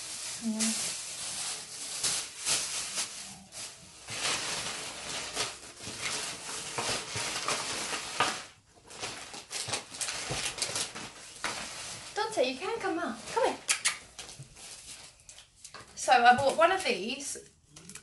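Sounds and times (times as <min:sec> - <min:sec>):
bags and packaging crinkling: 0:00.0 - 0:16.7.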